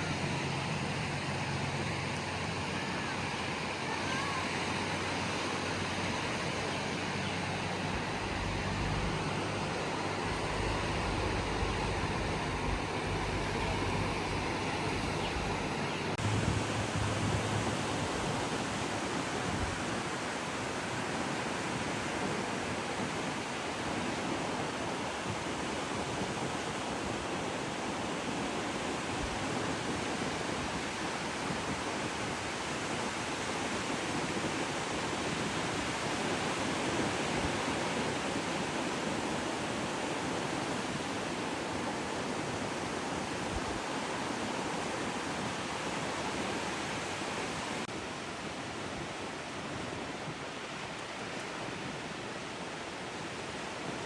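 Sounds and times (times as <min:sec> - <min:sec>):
steady rushing noise: 0:00.0 - 0:49.5.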